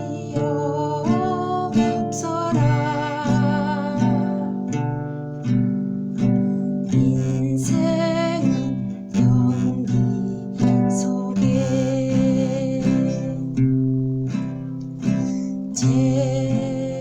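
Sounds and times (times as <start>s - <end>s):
person singing: 0.0s - 5.4s, 6.2s - 13.8s, 15.0s - 17.0s
acoustic guitar strumming chords: 0.0s - 17.0s.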